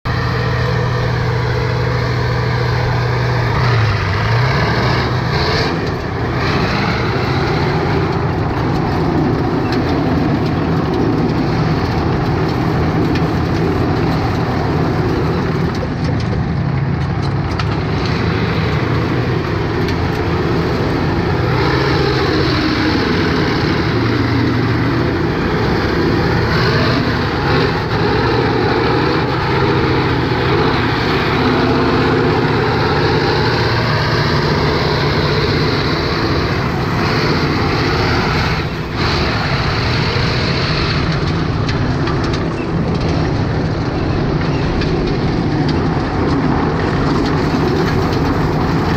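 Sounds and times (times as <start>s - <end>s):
tank diesel engine running: 0.0s - 48.9s.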